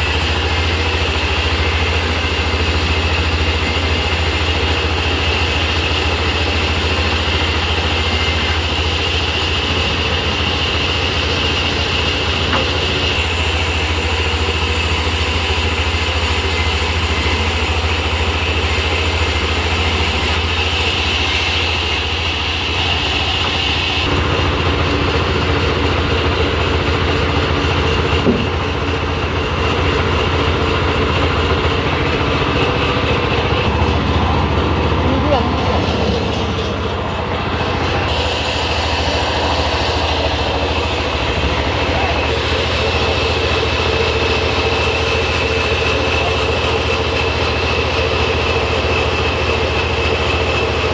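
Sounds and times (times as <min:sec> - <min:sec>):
sawmill machinery running: 0:00.0 - 0:50.9.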